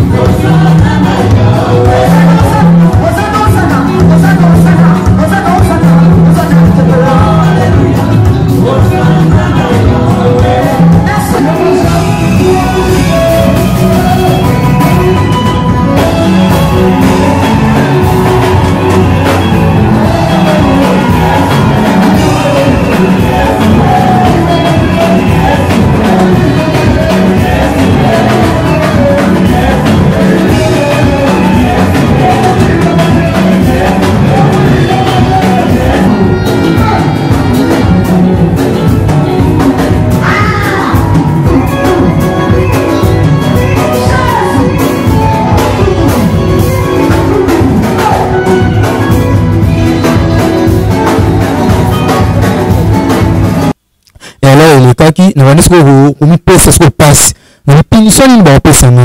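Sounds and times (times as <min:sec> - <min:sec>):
loud music with singing: 0:00.0 - 0:59.0.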